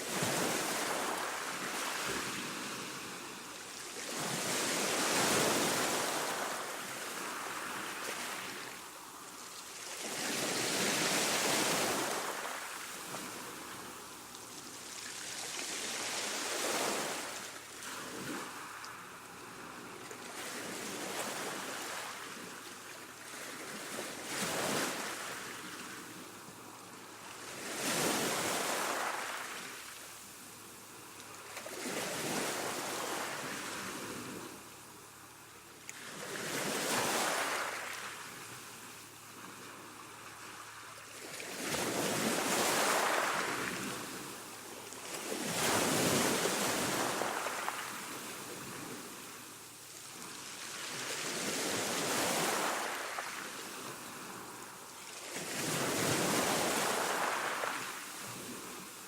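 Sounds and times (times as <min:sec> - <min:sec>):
gentle waves washing on shore: 0:00.0 - 0:59.0.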